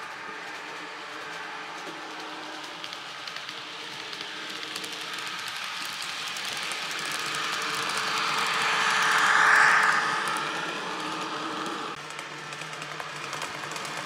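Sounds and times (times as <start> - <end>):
diesel train sound from tiny speaker: 0.0 - 14.0.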